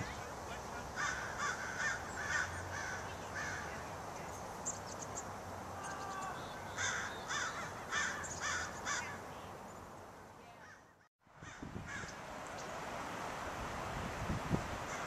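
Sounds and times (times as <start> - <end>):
bird calls: 0.0 - 12.8
steady background hiss: 0.0 - 15.0.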